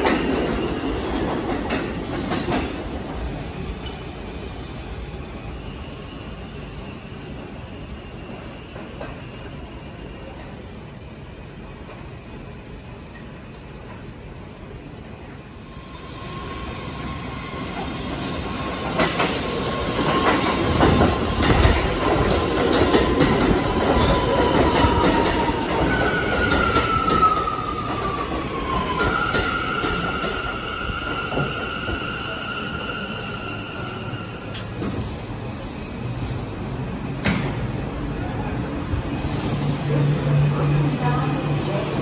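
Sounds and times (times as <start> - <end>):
subway train rumble and wheel clatter: 0.0 - 42.0.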